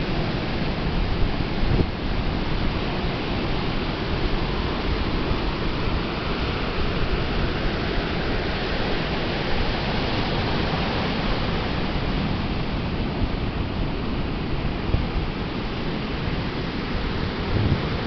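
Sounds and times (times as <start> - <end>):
surf washing onto beach: 0.0 - 18.0.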